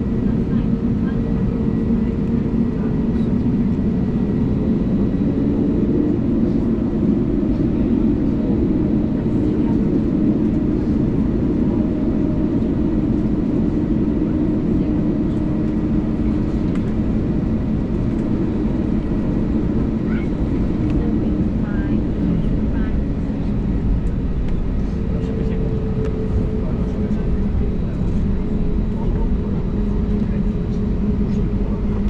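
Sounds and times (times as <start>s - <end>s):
aircraft cabin engine rumble: 0.0s - 32.0s
faint steady engine whine: 0.0s - 32.0s.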